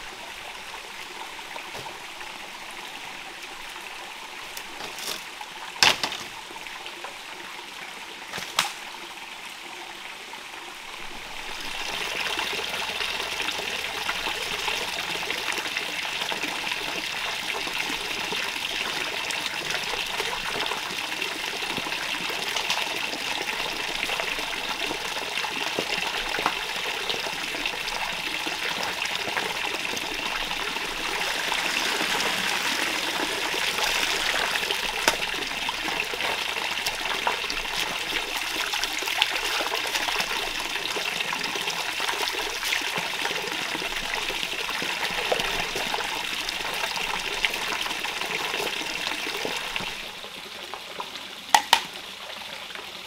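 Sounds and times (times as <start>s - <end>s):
stream trickling over rocks: 0.0s - 53.0s.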